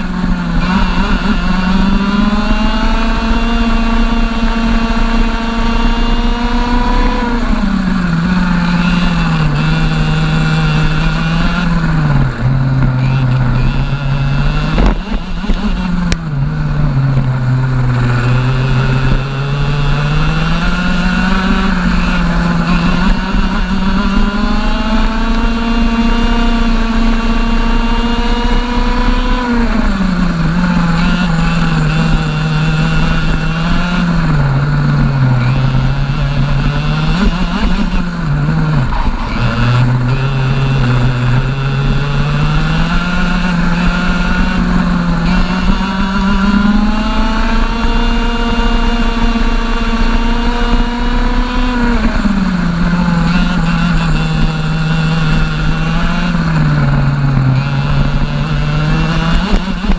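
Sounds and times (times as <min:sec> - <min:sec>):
two-stroke kart engine revving: 0:00.0 - 0:59.9.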